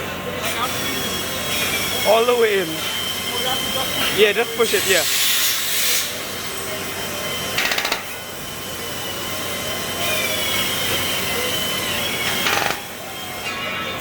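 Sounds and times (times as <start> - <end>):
workshop noise: 0.0 - 14.0.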